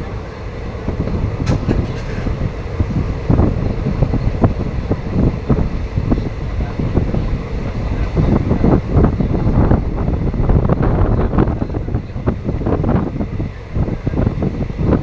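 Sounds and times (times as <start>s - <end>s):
moving train rumble: 0.0s - 15.0s
wind buffeting microphone: 0.0s - 15.0s
wheels knocking on rails: 0.9s - 15.0s.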